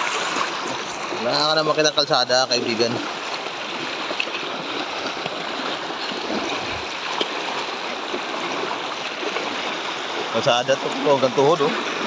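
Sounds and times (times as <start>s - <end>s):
floodwater flowing: 0.0s - 12.0s.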